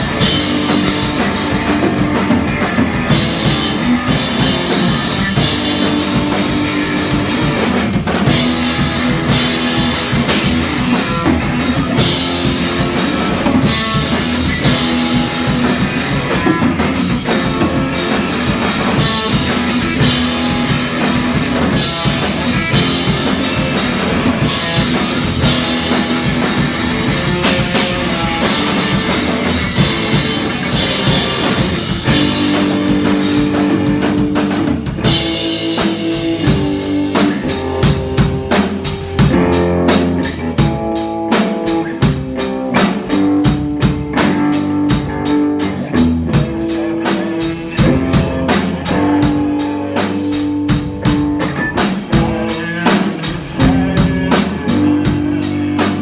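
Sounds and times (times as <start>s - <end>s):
bass guitar: 0.0s - 56.0s
drums: 0.0s - 56.0s
electric guitar: 0.0s - 56.0s.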